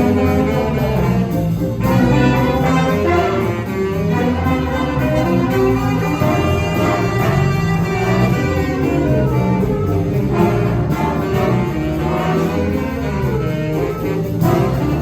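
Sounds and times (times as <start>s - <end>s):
jazz ensemble playing: 0.0s - 15.0s.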